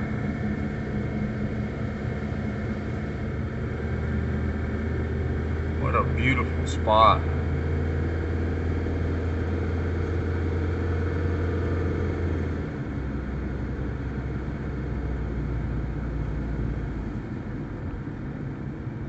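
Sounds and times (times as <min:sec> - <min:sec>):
car engine hum: 0:00.0 - 0:19.0
road noise: 0:00.0 - 0:19.0.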